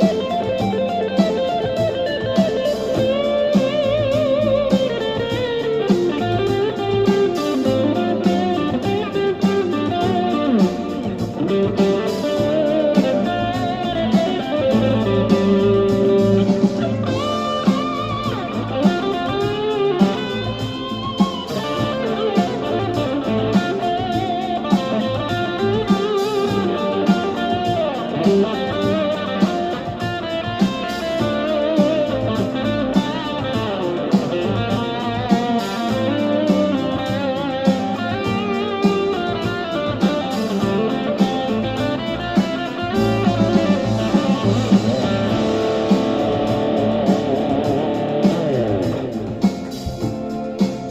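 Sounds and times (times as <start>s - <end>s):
blues backing track: 0.0s - 50.9s
electric guitar blues solo: 0.0s - 50.9s.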